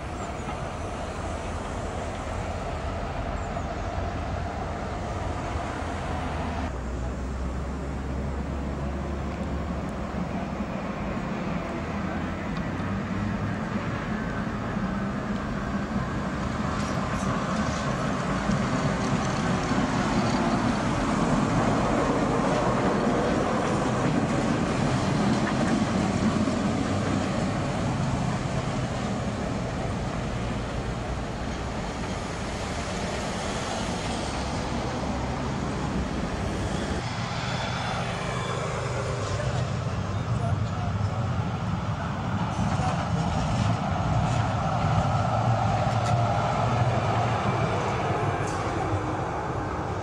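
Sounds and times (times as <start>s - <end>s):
tram passing on track: 0.0s - 50.0s.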